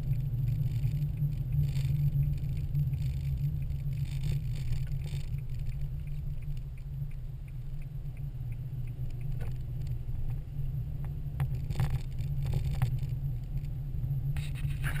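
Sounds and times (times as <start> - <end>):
turn signal ticking: 0.0 - 13.7
car driving on snow: 0.0 - 15.0.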